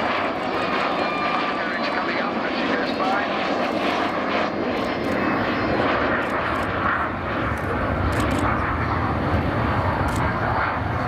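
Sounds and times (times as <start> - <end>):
jet bomber flying past: 0.0 - 11.0.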